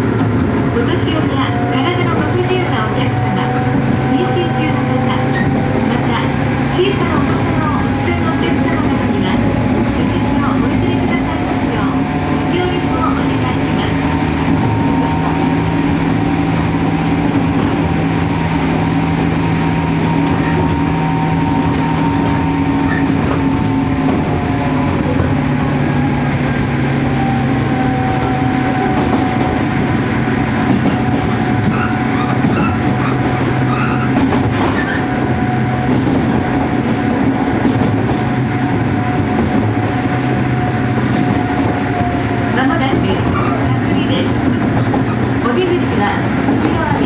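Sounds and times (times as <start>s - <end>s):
train motor whine: 0.0s - 47.0s
train wheels clattering on rails: 0.0s - 47.0s.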